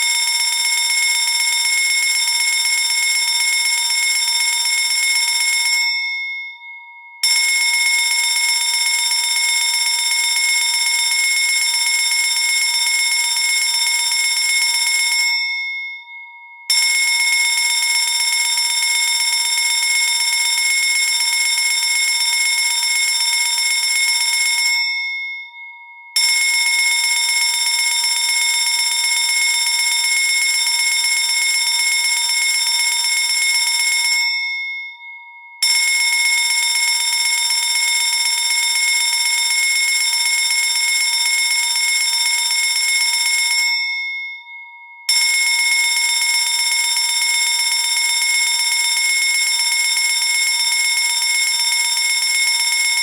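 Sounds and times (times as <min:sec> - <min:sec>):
fire alarm bell ringing: 0:00.0 - 0:53.0.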